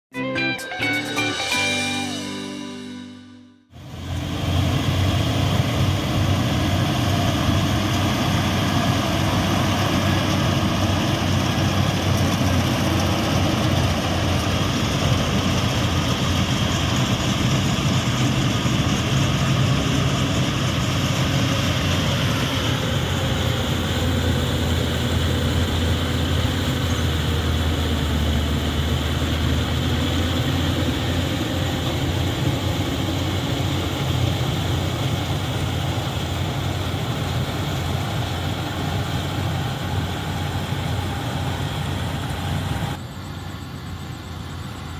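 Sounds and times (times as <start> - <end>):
combine harvester running: 0.3 - 44.9.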